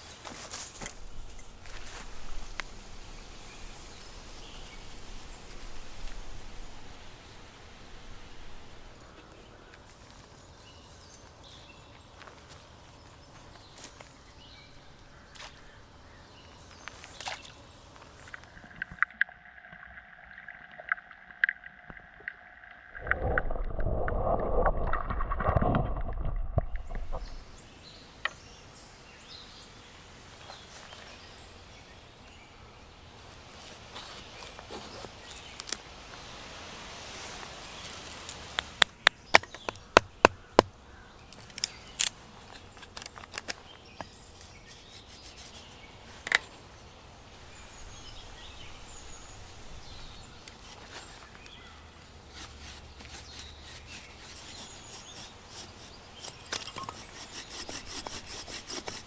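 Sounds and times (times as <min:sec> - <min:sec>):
faint outdoor background: 0:00.0 - 0:59.0.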